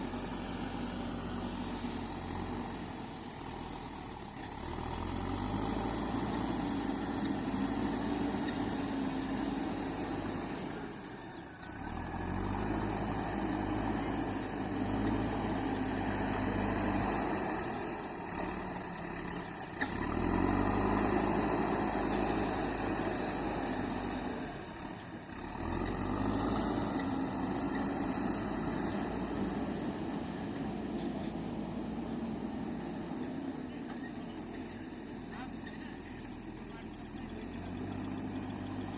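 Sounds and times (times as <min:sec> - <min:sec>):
diesel engine under varying load: 0:00.0 - 0:38.9.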